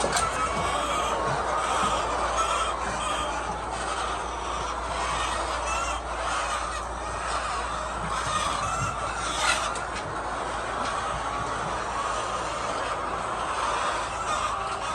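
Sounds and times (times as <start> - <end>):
hens clucking: 0.0 - 14.9.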